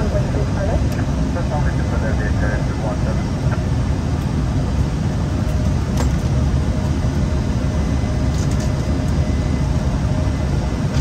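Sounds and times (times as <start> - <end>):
airflow and engine rumble: 0.0 - 11.0.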